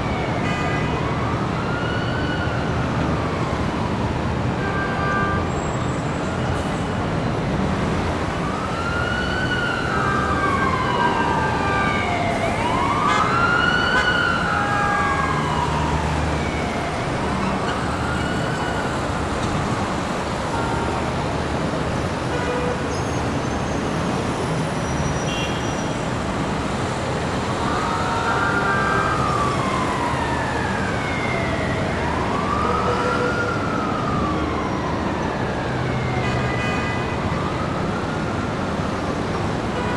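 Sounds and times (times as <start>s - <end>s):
emergency siren wailing: 0.0s - 22.3s, 23.8s - 39.9s
city traffic rumble: 0.0s - 39.9s.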